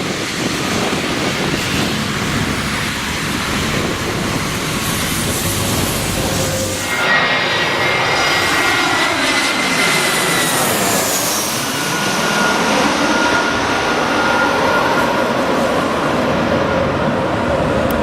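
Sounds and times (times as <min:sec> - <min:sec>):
high engine whine: 0:00.0 - 0:18.0
jet engines roaring: 0:00.0 - 0:18.0.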